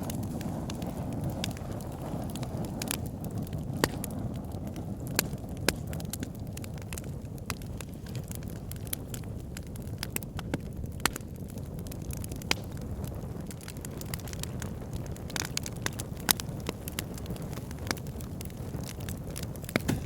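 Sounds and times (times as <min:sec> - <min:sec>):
campfire crackles and pops: 0:00.0 - 0:20.0
low rush of flames: 0:00.0 - 0:20.0.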